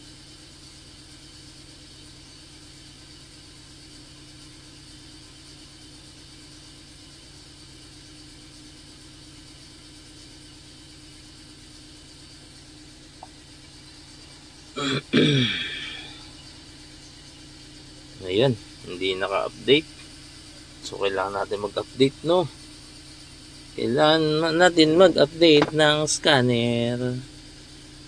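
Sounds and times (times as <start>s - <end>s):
car engine idling roughly: 0.0s - 28.0s.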